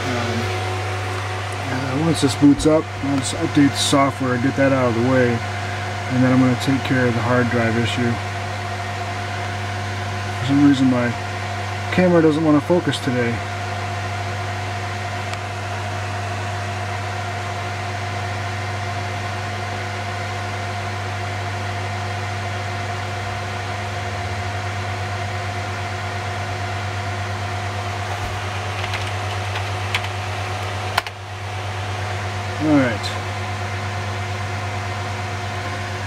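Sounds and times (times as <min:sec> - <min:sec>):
server fans whirring: 0:00.0 - 0:36.0.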